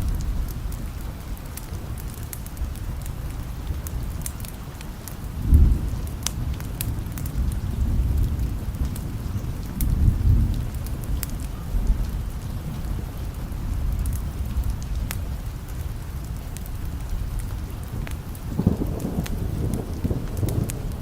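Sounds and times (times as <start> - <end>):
low thunder rumble: 0.0 - 21.0
steady rain: 0.0 - 21.0.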